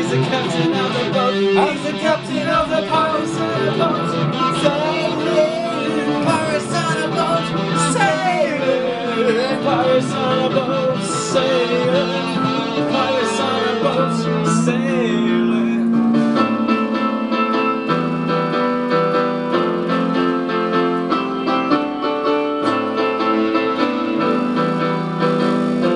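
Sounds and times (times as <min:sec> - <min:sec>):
guitar: 0:00.0 - 0:25.9
keyboard: 0:00.0 - 0:25.9.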